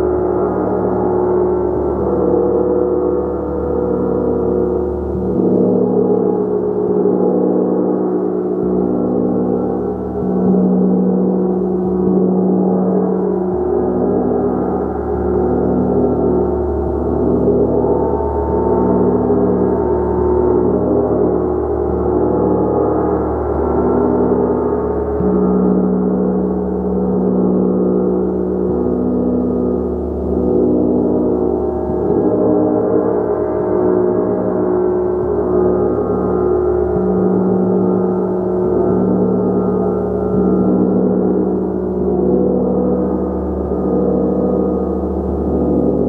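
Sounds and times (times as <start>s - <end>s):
large gong ringing: 0.0s - 46.0s.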